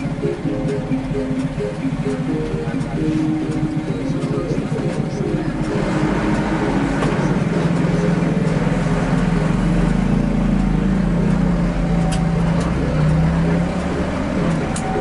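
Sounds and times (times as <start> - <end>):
bus and traffic engines running: 0.0 - 15.0.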